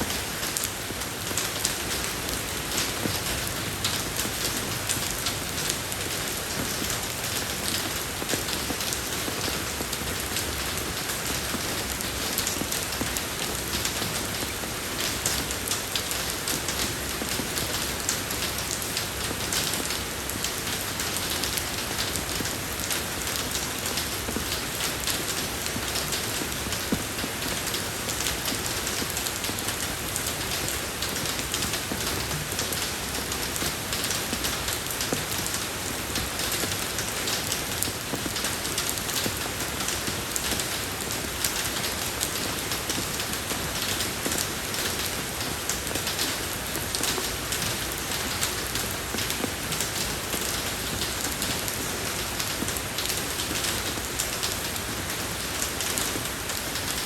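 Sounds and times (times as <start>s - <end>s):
rain on road hissing: 0.0s - 57.0s.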